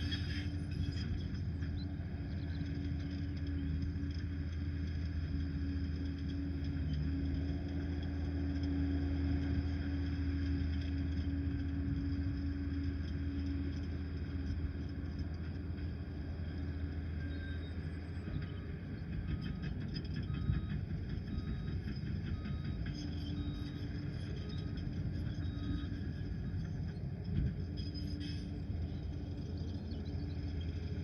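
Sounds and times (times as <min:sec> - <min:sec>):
dozer diesel engine droning: 0:00.0 - 0:31.0.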